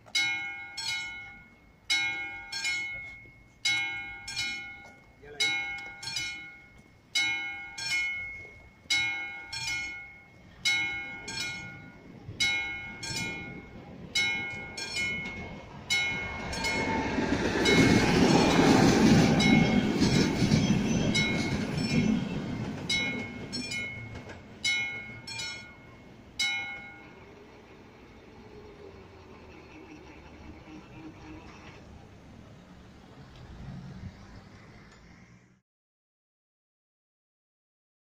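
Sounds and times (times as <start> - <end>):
level crossing warning bell: 0.0 - 31.6
train rumbling past: 0.0 - 35.6.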